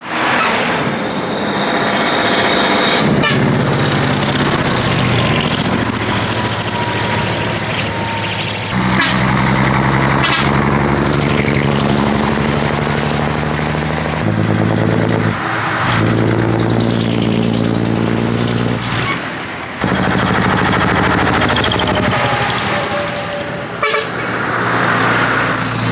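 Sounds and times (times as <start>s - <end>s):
truck diesel engines running: 0.0s - 25.9s.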